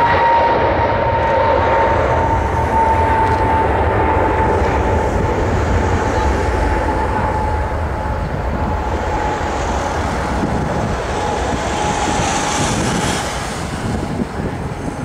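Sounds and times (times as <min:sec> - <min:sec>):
jet engines at takeoff: 0:00.0 - 0:15.0
wind buffeting microphone: 0:00.0 - 0:15.0.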